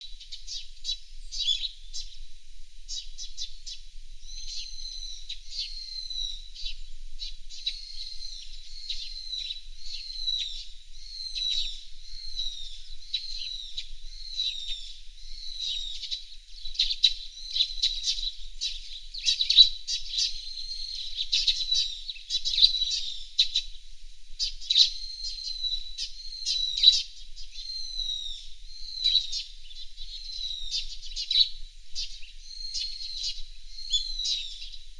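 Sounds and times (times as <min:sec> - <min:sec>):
birds chirping: 0:00.2 - 0:02.2, 0:02.9 - 0:23.8, 0:24.4 - 0:34.9.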